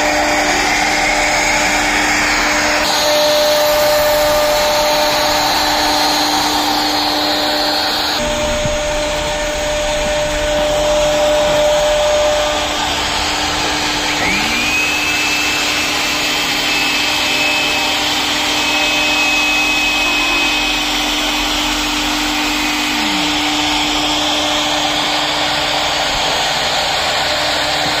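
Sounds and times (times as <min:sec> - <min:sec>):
cnc router carving wood: 0:00.0 - 0:28.0
high whine: 0:00.0 - 0:28.0.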